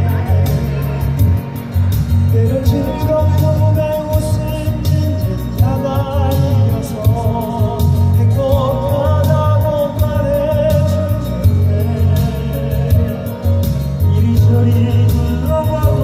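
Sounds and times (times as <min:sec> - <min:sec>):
backing music with beat and bass: 0:00.0 - 0:16.0
two men singing in harmony: 0:02.3 - 0:16.0.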